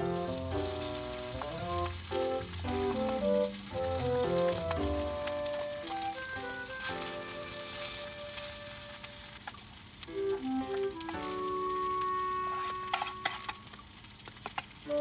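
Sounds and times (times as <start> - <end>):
background music of held notes: 0.0 - 9.4, 10.1 - 13.5
food sizzling in frying pan: 0.0 - 15.0.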